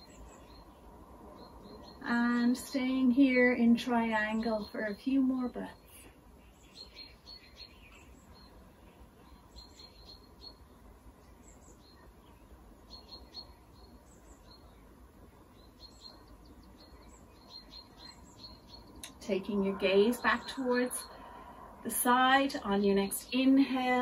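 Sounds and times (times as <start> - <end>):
faint bird chirps: 0.0 - 2.6, 4.4 - 22.6
faint low background hiss: 0.0 - 24.0.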